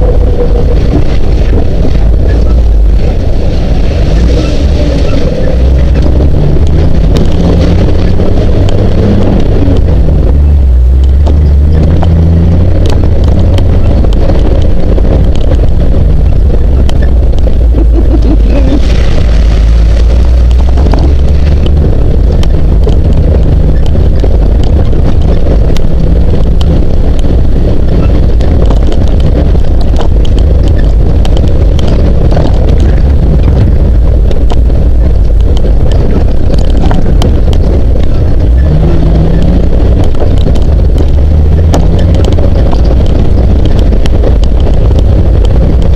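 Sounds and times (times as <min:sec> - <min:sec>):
vehicle engine and road rumble: 0:00.0 - 0:45.9
wind buffeting microphone: 0:00.0 - 0:45.9.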